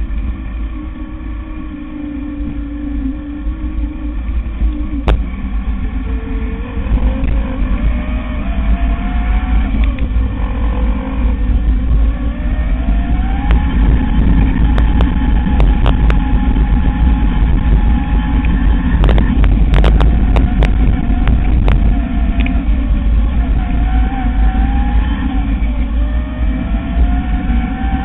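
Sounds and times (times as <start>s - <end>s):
electric motor whine: 0.0s - 28.0s
wind and trail vibration rumble: 0.0s - 28.0s.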